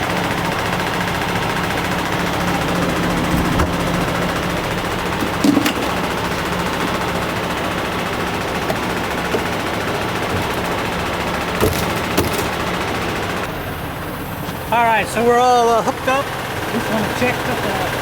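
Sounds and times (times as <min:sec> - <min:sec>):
diesel truck engine clattering: 0:00.0 - 0:18.0.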